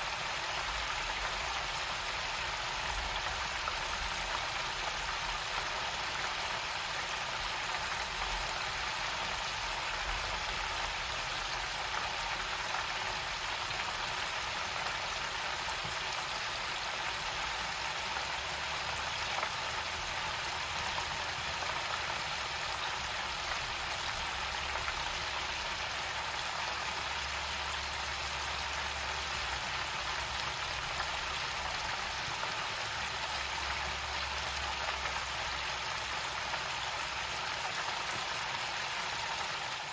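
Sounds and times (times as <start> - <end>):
chicken sizzling in deep fryer: 0.0 - 39.9.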